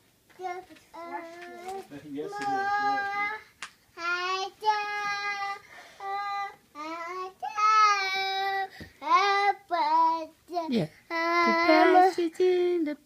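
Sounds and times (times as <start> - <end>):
girl singing high: 0.4 - 3.4, 4.0 - 12.2.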